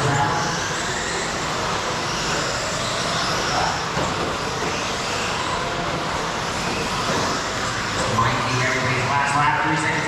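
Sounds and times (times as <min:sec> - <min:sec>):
rc truck motor whine: 0:00.0 - 0:09.1
rc truck tyre noise: 0:00.0 - 0:09.1.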